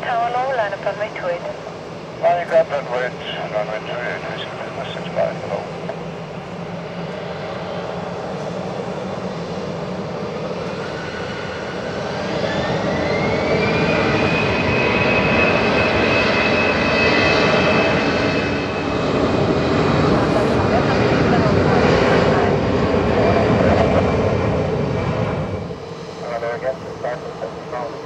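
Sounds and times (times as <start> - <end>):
jet engine rumble: 0.0 - 28.0
jet engine whine rising: 0.0 - 28.0.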